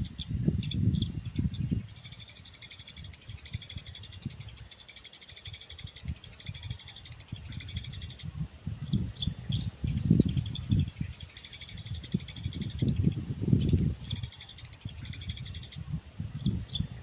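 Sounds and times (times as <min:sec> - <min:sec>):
wind rumble on microphone: 0:00.0 - 0:04.8, 0:05.4 - 0:17.0.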